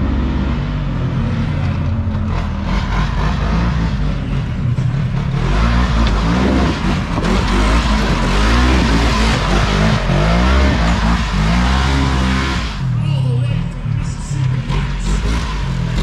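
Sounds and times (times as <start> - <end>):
engine running hard: 0.0 - 16.0.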